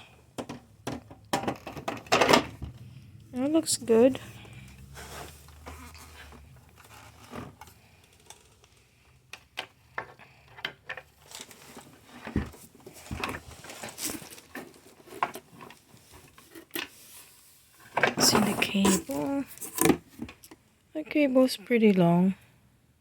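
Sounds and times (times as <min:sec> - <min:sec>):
cable and packaging rustling: 0:00.0 - 0:20.6.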